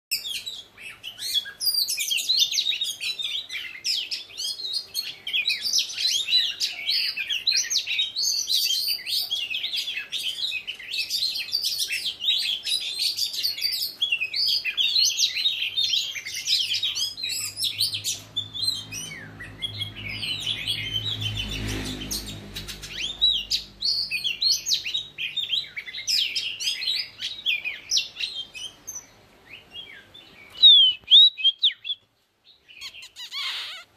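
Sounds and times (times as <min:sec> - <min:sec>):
birds singing whistles and chirps: 0:00.1 - 0:33.9.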